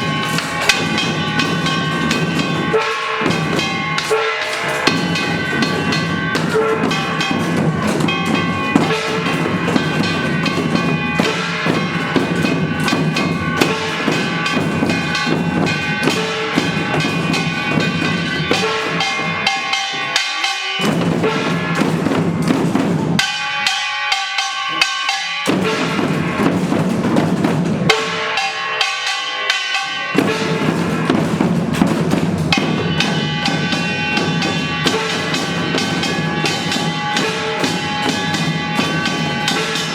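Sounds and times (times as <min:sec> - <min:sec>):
drums beating a steady rhythm: 0:00.0 - 0:39.9
gongs clanging and ringing: 0:00.0 - 0:39.9.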